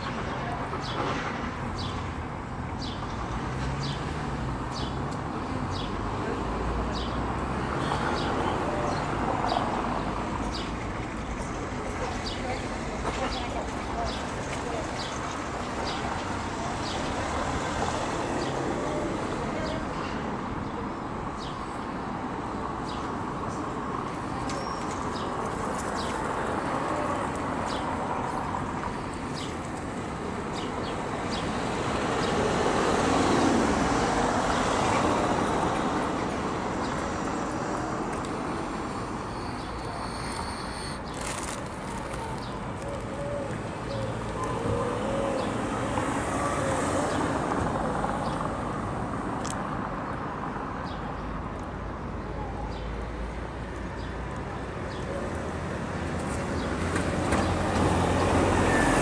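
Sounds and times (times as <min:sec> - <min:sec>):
road traffic noise: 0:00.0 - 0:59.0.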